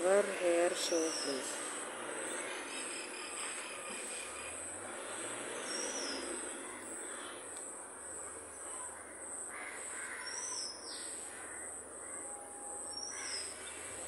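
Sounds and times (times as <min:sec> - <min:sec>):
birds calling: 0:00.0 - 0:07.5, 0:08.7 - 0:12.3, 0:12.9 - 0:14.0
outdoor background hiss: 0:00.0 - 0:14.0.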